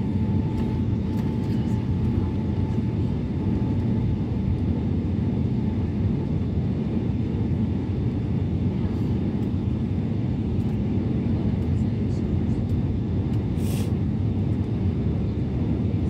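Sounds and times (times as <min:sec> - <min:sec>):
jet engine cabin roar: 0:00.0 - 0:16.0.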